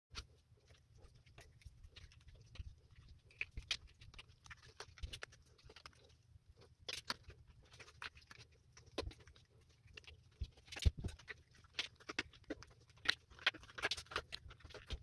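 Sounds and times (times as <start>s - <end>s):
resin crackling and clicking: 0.2s - 15.0s.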